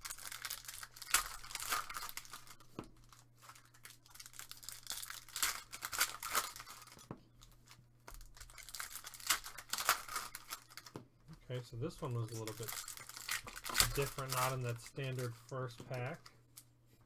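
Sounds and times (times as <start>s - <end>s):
foil wrapper tearing and crinkling: 0.0s - 10.9s, 12.1s - 15.3s.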